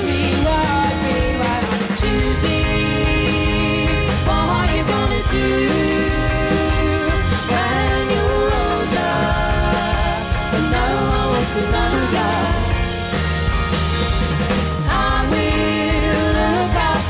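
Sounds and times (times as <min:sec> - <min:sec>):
woman singing: 0:00.0 - 0:12.9, 0:14.9 - 0:17.0
live pop band: 0:00.0 - 0:17.0.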